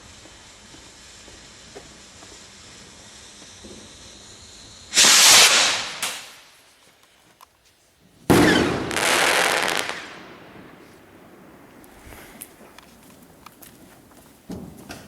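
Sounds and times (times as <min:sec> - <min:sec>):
firework bangs with crackling: 0:00.0 - 0:06.7, 0:08.0 - 0:15.0.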